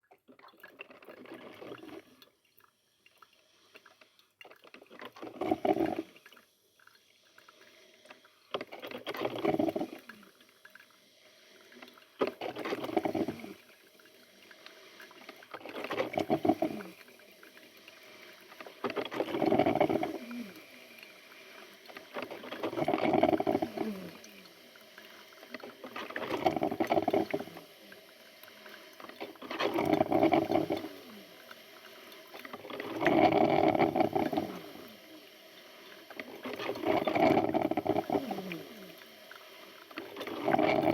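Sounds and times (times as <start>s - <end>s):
coffee maker gurgling: 0.0s - 40.9s.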